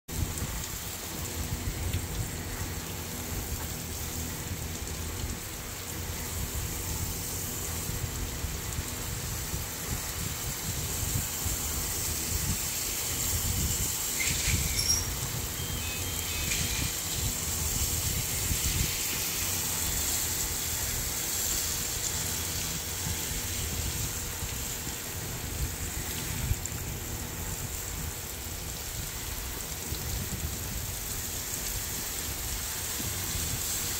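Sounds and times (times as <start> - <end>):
water spraying from hose: 0.1 - 33.9.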